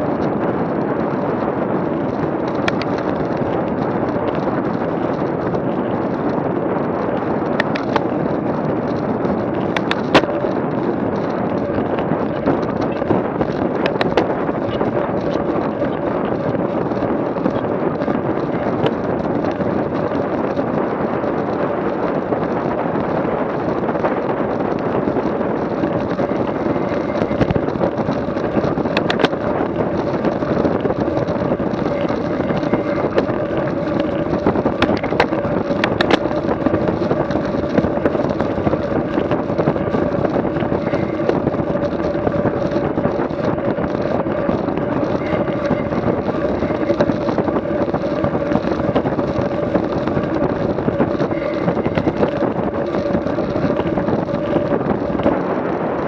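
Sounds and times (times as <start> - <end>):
wind rushing over microphone: 0.0 - 56.0
vehicle engine running: 7.0 - 55.8.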